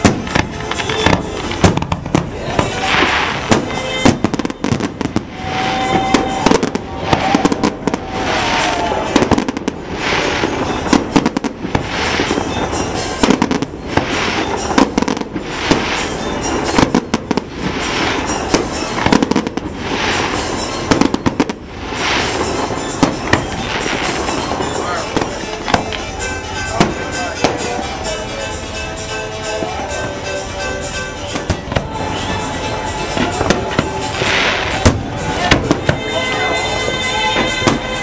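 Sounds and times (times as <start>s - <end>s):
continuous noisy din: 0.0s - 38.0s
fireworks bangs and crackles: 0.0s - 38.0s.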